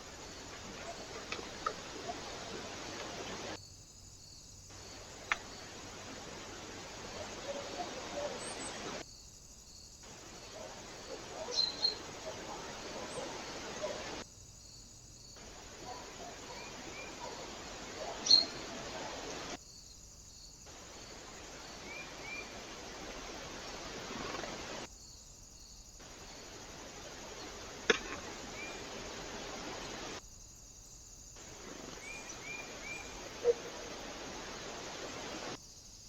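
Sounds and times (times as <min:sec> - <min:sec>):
microphone hiss: 0:00.0 - 0:09.0, 0:10.0 - 0:14.2, 0:15.2 - 0:19.6, 0:20.6 - 0:24.9, 0:25.9 - 0:35.6.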